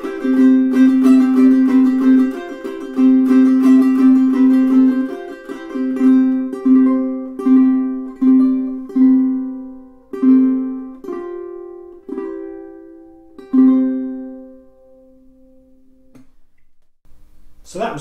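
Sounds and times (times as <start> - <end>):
ukulele chords strummed: 0.0 - 16.3.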